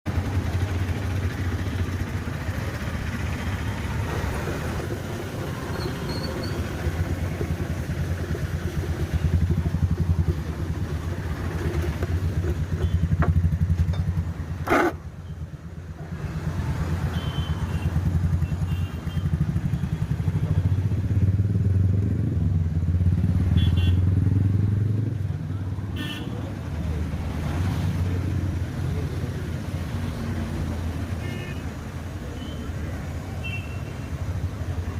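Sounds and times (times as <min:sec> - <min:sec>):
street noise: 0:00.0 - 0:34.9.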